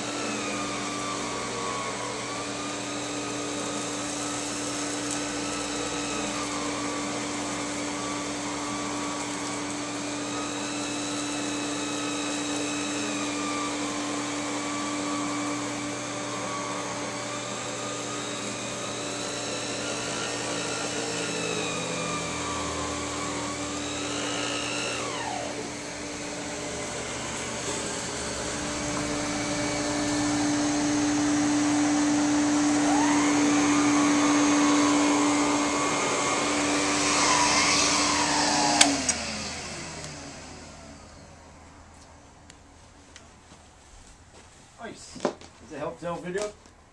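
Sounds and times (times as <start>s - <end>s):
vacuum cleaner motor whine: 0.0s - 42.9s.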